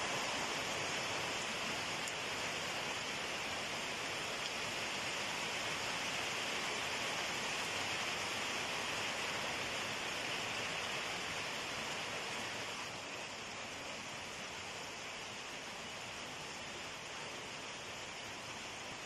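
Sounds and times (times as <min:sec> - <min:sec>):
rain on foliage: 0:00.0 - 0:19.0.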